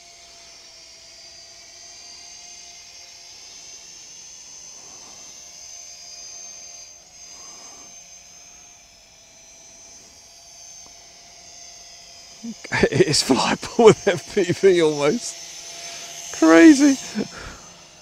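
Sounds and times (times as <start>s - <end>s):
toy drone buzzing whine: 0.0s - 18.0s.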